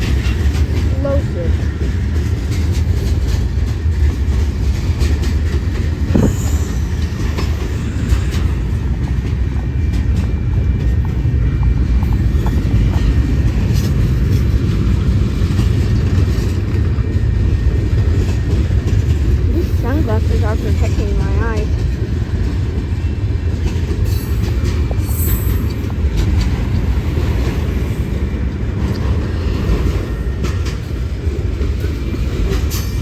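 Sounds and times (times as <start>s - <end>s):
train wheels rumbling on rail: 0.0s - 33.0s
wheels clicking over rail joints: 0.0s - 33.0s.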